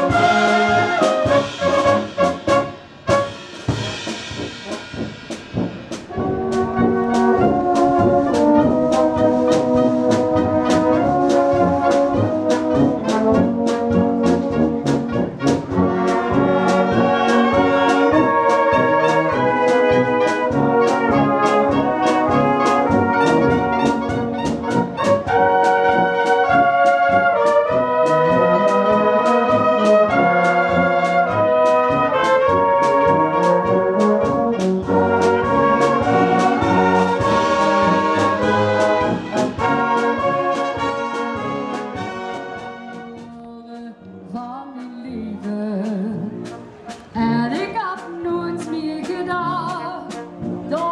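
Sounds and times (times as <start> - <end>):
brass band playing: 0.0 - 43.5, 45.4 - 50.9.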